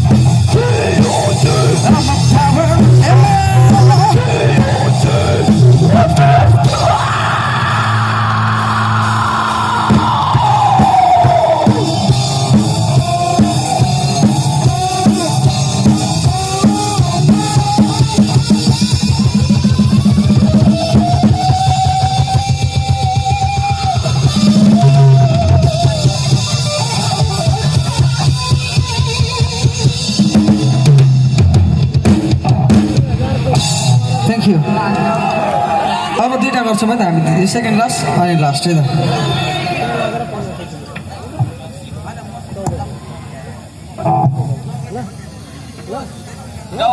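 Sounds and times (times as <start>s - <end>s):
rock band playing: 0.0s - 41.4s.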